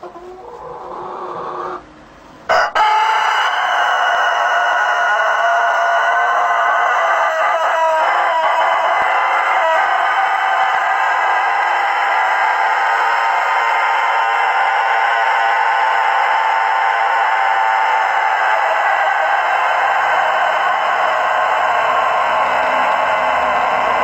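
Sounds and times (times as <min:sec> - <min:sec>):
rooster crowing: 0:02.5 - 0:24.0.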